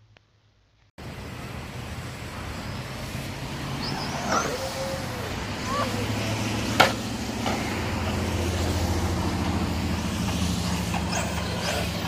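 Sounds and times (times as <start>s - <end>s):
low engine hum: 1.0s - 12.0s.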